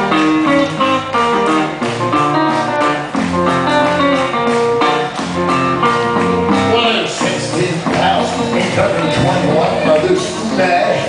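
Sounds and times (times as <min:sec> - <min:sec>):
bass line: 0:00.0 - 0:11.0
guitar picking quick runs: 0:00.0 - 0:11.0.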